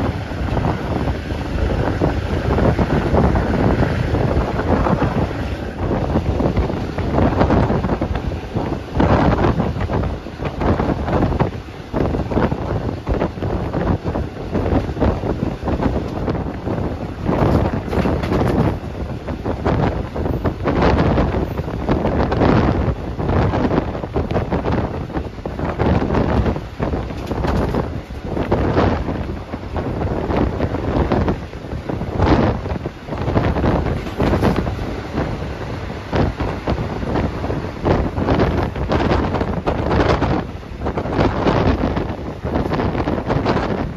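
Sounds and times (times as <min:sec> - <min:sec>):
train rumbling: 0:00.0 - 0:43.9
wind buffeting microphone: 0:00.0 - 0:43.9.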